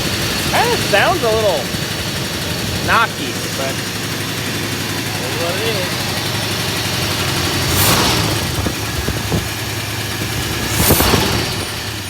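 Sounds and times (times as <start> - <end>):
engine rushes: 0.0 - 12.0
truck engine idling: 0.0 - 12.0.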